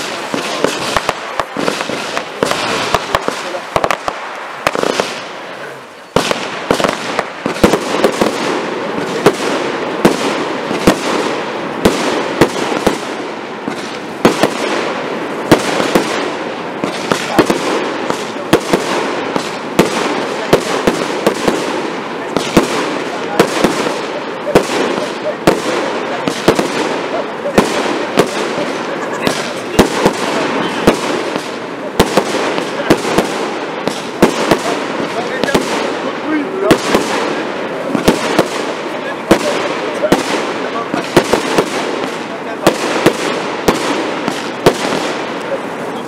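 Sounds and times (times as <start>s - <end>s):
fireworks crackling: 0.0s - 46.0s
fireworks shells bursting with bangs: 0.0s - 46.0s.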